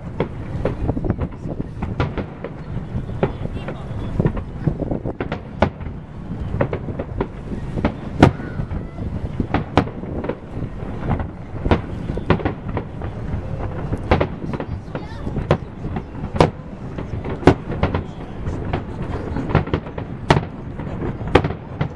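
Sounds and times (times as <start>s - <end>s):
continuous low rumble: 0.0s - 21.9s
fireworks bursting: 0.0s - 21.9s.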